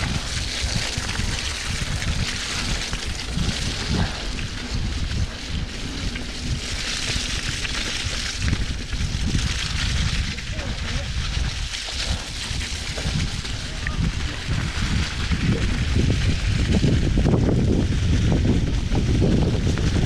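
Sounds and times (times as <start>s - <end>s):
bike knocking over ruts: 0.0s - 20.0s
tyres churning through wet mud: 0.0s - 20.0s
wind buffeting microphone: 0.0s - 20.0s.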